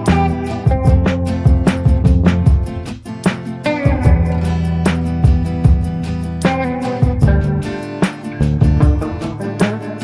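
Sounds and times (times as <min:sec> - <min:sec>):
strummed guitar music with beat: 0:00.0 - 0:10.0.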